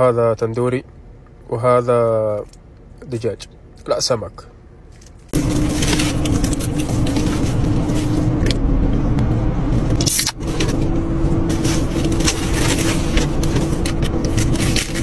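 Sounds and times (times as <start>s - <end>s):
car engine running in cabin: 0.0s - 15.0s.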